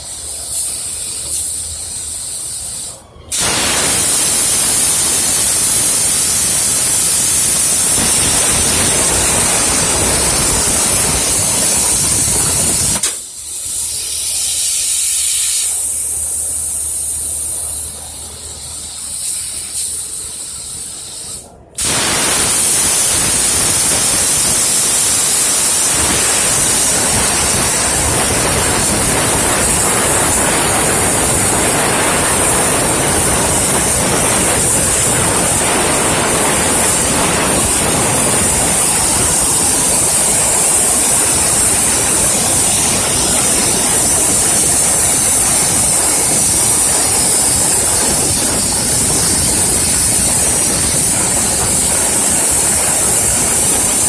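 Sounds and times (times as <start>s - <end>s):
cutting torch hissing: 0.0s - 54.0s.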